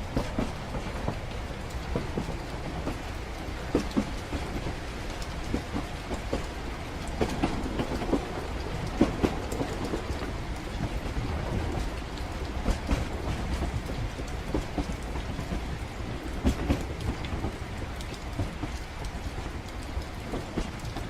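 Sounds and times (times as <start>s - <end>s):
falling rain: 0.0s - 21.0s
moving train rumble: 0.0s - 21.0s.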